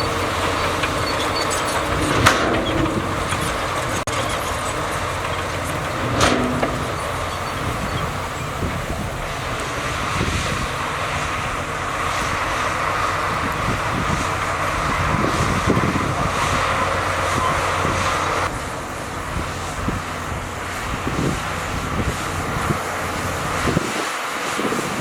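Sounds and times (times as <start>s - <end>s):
diesel machinery engine rumble: 0.0s - 25.0s
high engine whine: 0.0s - 25.0s.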